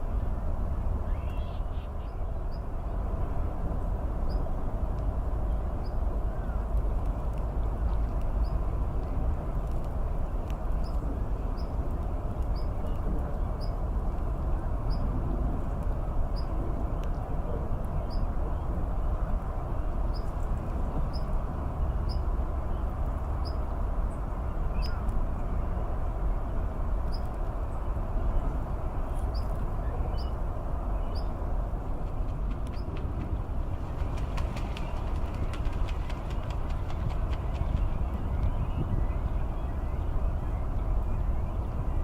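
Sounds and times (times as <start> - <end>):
low background rumble: 0.0 - 42.0.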